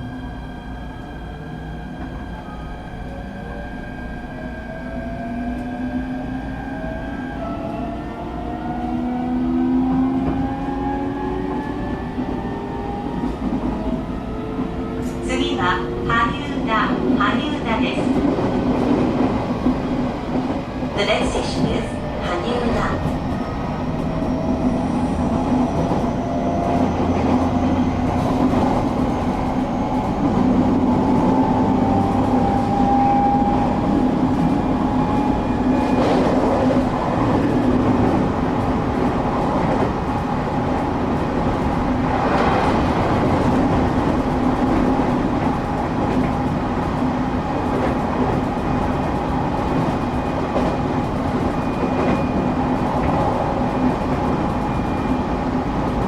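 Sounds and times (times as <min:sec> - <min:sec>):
train running rumble and hum: 0:04.2 - 0:56.0.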